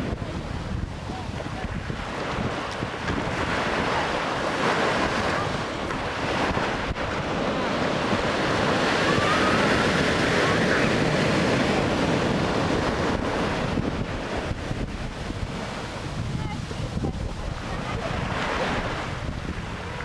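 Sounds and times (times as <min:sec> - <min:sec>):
sea waves breaking on beach: 0:00.0 - 0:20.0
wind rumbling on microphone: 0:00.0 - 0:20.0.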